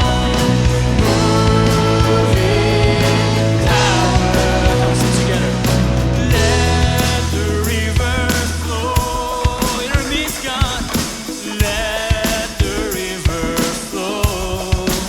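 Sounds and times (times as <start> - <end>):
band playing a worship song: 0.0 - 15.0
drum kit hits: 0.0 - 15.0
person singing: 0.0 - 15.0.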